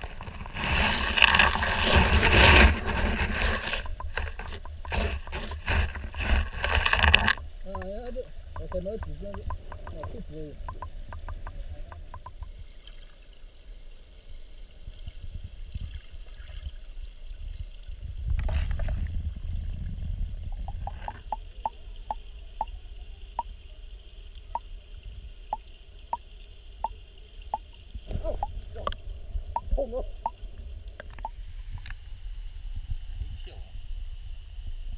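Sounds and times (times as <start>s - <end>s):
underwater stream rumble: 0.0s - 34.9s.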